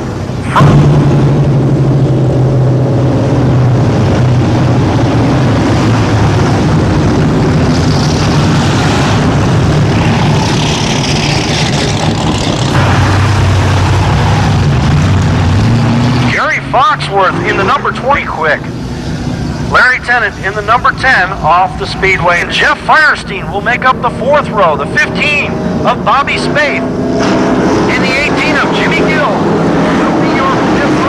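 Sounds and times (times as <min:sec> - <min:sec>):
race truck engines droning: 0:00.0 - 0:31.0.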